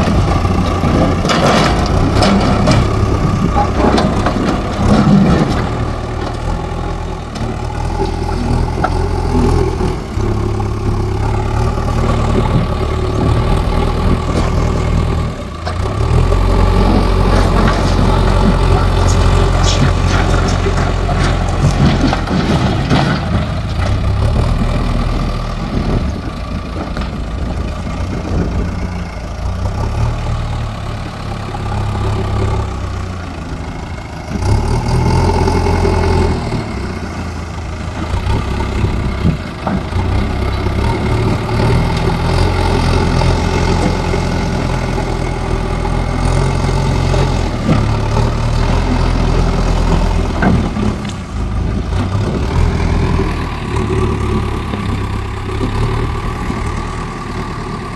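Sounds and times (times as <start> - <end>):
diesel engine of digger working: 0.0 - 57.9.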